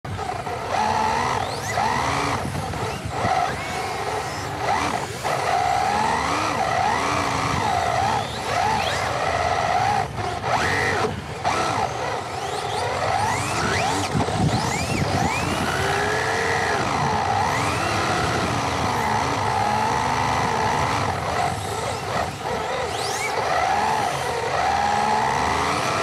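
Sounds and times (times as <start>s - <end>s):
toy car electric motors whining: 0.1s - 26.0s.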